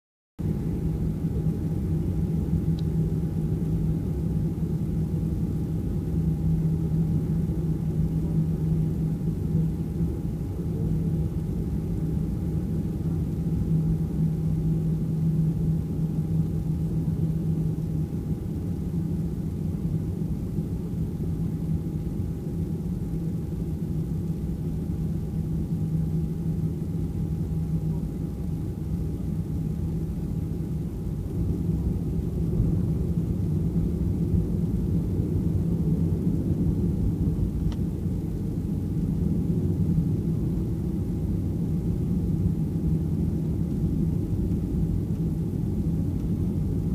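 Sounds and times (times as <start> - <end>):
airplane engines rumbling: 0.4 - 46.9
faint steady whine: 0.4 - 46.9.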